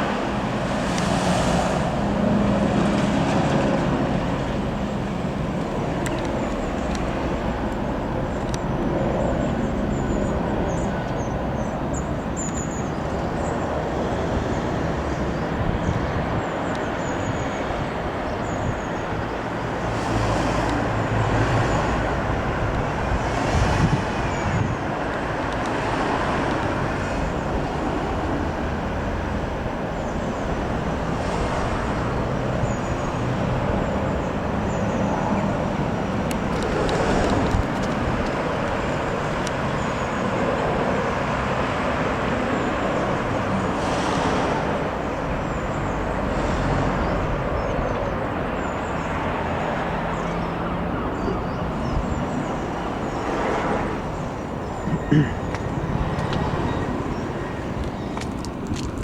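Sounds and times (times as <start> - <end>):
road traffic: 0.0 - 59.0.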